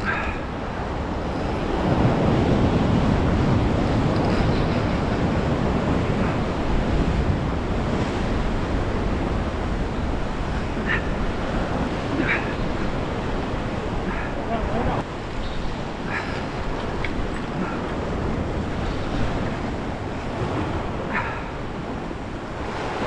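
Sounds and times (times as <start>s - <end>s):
ocean surf breaking over rocks: 0.0s - 23.0s
wind on microphone: 0.0s - 23.0s.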